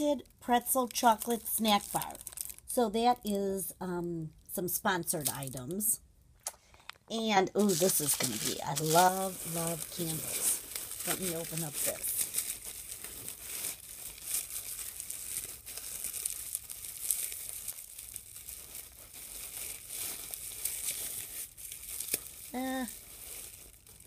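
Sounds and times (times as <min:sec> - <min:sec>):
wrapping crinkling and tearing: 0:00.5 - 0:02.9, 0:06.4 - 0:24.0.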